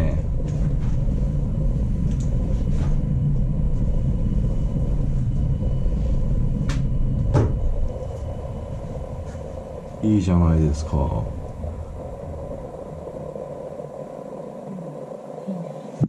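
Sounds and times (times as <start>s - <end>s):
faint whine: 0.0s - 16.0s
train rumble: 0.0s - 16.0s.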